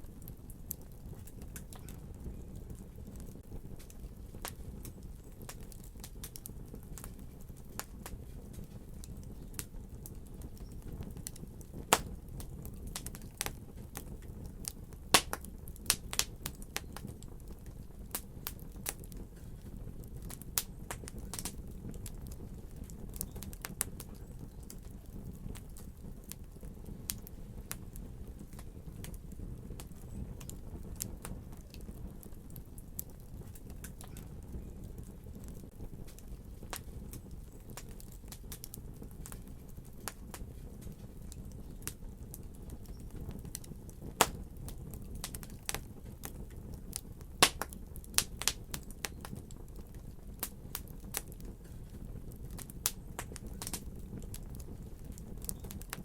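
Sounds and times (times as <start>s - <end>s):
fire crackling: 0.0s - 56.0s
sharp pops of fire: 0.0s - 56.0s.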